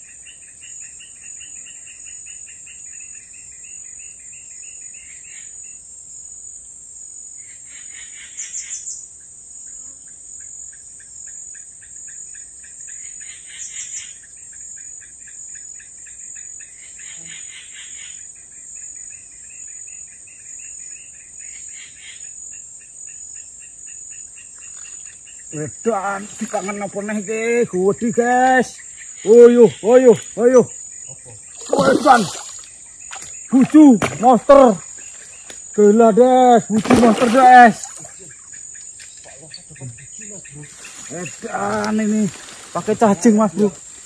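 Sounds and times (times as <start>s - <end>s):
insects chirping: 0.0s - 44.0s
pulsing insect trills: 0.0s - 44.0s.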